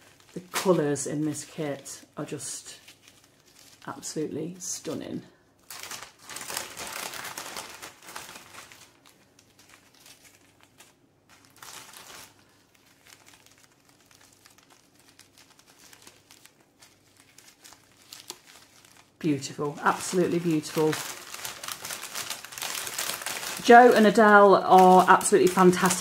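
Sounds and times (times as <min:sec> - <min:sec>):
plastic bags crinkling: 0:00.0 - 0:26.0.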